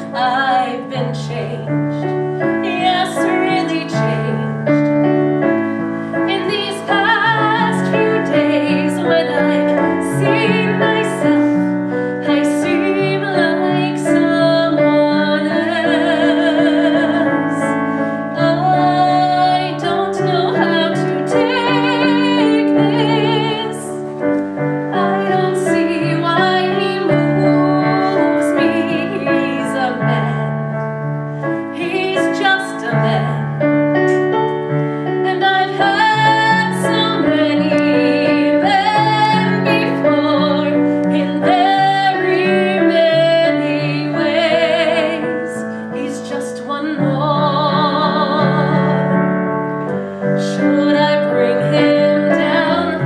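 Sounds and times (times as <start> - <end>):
woman singing with vibrato: 0.0 - 4.8, 6.3 - 24.2, 24.9 - 30.6, 31.7 - 34.2, 35.2 - 49.1, 50.4 - 53.0
piano: 0.0 - 53.0.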